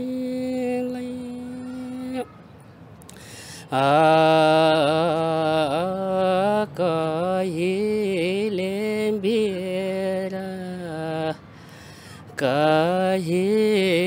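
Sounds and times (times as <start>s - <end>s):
man singing unaccompanied: 0.0s - 2.3s, 3.6s - 11.4s, 12.2s - 14.0s.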